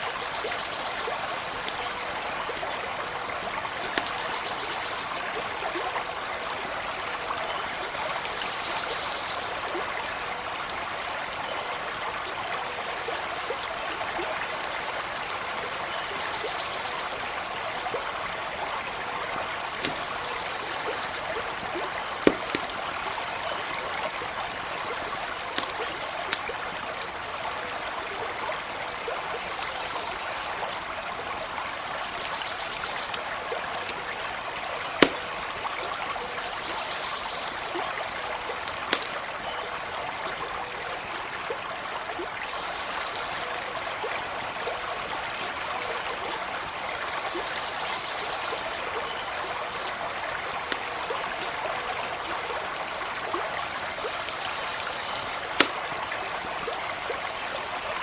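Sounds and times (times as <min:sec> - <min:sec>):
campfire crackles: 0:00.0 - 0:58.0
stream trickling: 0:00.0 - 0:58.0.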